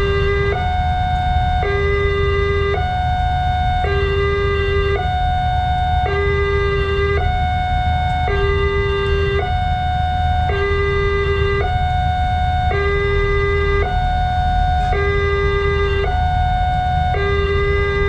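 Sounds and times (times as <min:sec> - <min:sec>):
two-tone level-crossing siren: 0:00.0 - 0:18.0.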